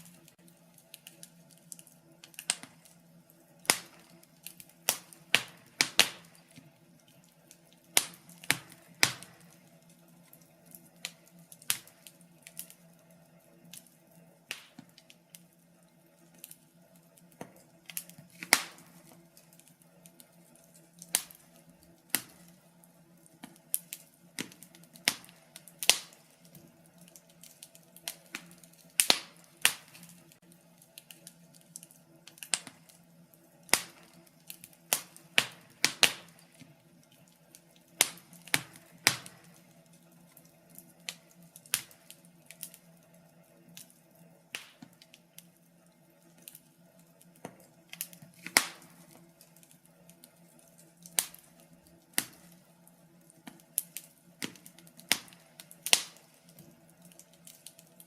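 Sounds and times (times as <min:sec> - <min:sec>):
faint steady hum: 0:00.0 - 0:58.0
wood fire crackling and popping: 0:00.0 - 0:58.0.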